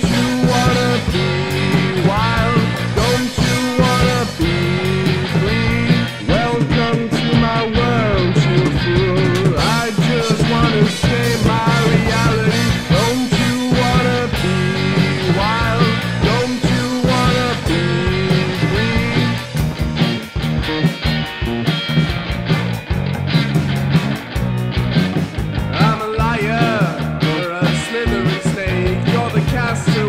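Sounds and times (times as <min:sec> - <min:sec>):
bending lead melody: 0:00.0 - 0:30.0
drum hits: 0:00.0 - 0:30.0
rock band playing: 0:00.0 - 0:30.0.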